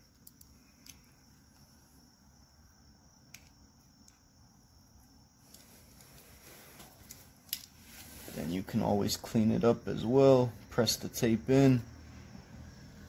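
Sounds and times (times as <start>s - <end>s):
crickets chirring faintly: 0.0s - 13.0s.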